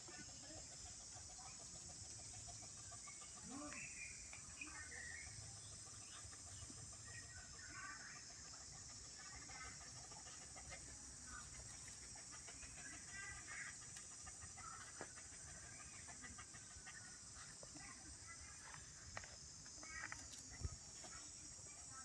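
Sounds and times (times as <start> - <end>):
faint insect chorus: 0.0 - 22.0.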